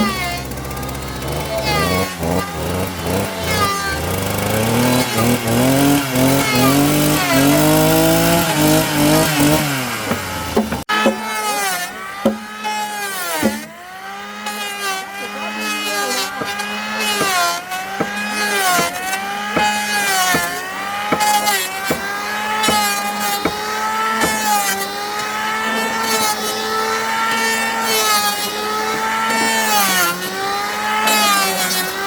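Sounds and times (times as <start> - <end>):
power tool motor cutting wood: 0.0 - 32.0.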